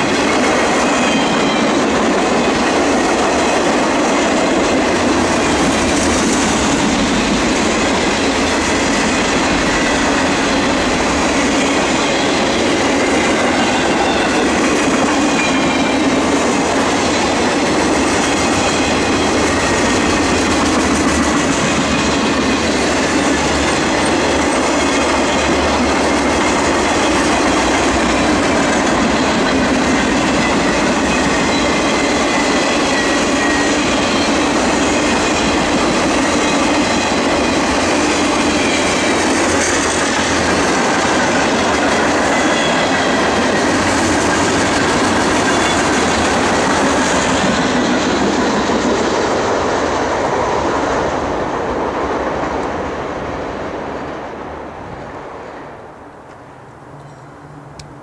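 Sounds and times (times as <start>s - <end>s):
freight cars rumbling on rails: 0.0s - 55.6s.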